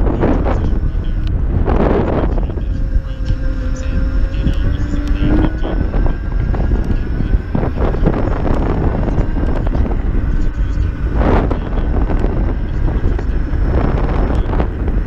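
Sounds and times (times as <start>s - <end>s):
electric motor whine: 0.0s - 15.0s
road rumble: 0.0s - 15.0s
wind buffeting microphone: 0.0s - 15.0s.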